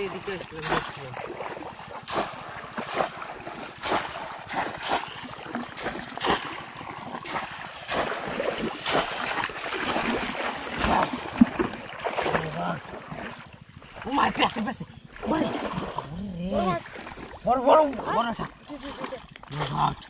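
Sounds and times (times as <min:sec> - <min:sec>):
splashing in shallow water: 0:00.0 - 0:20.0.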